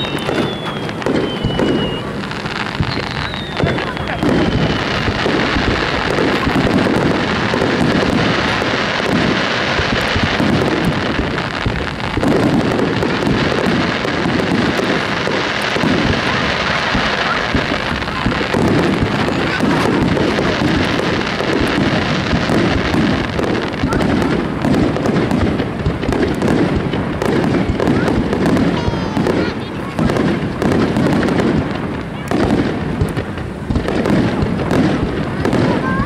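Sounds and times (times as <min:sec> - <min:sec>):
fireworks bursts and crackles: 0:00.0 - 0:36.0.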